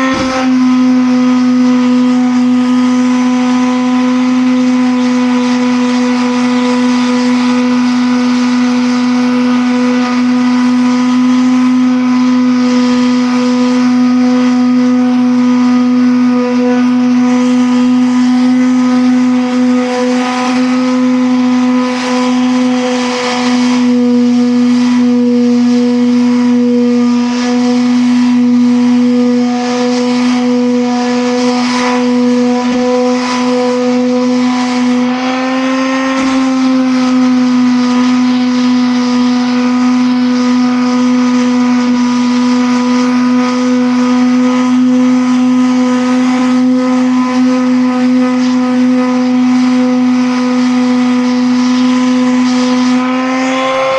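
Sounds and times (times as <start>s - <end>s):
motor humming: 0.0s - 53.9s.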